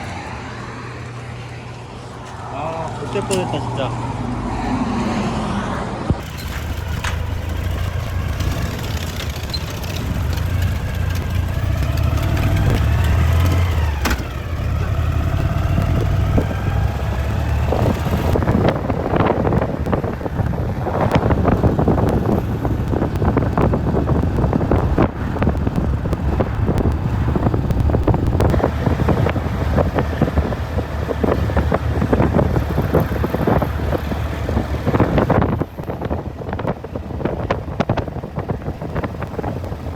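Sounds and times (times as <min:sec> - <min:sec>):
motorcycle engine accelerating: 0:00.0 - 0:39.9
wind buffeting microphone: 0:02.1 - 0:39.9.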